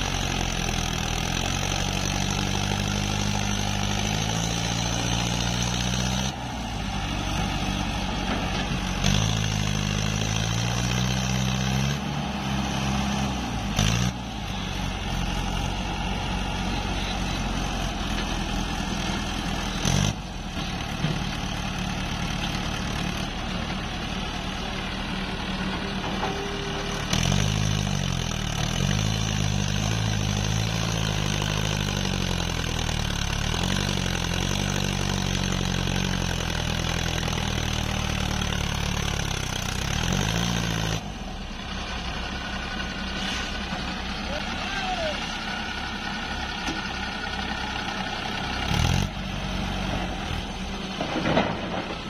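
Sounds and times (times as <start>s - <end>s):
diesel engines running: 0.0s - 52.0s.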